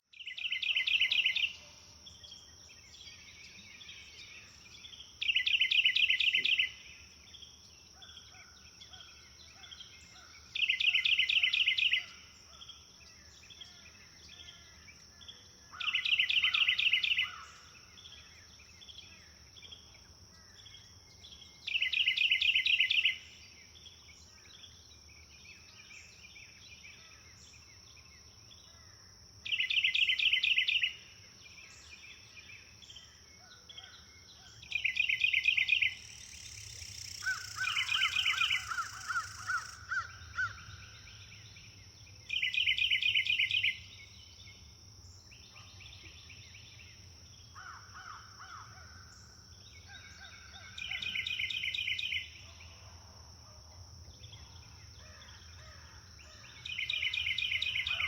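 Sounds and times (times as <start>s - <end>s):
songbirds singing trilled phrases: 0.0s - 52.8s, 54.0s - 58.0s.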